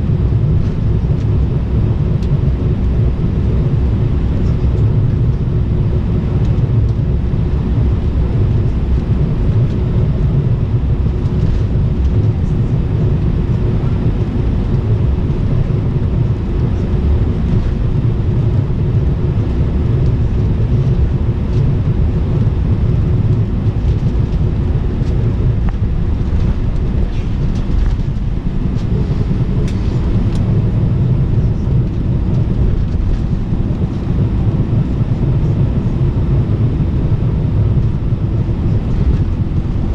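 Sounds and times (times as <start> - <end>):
jet engines rumbling: 0.0 - 39.9
steady hum: 0.0 - 39.9.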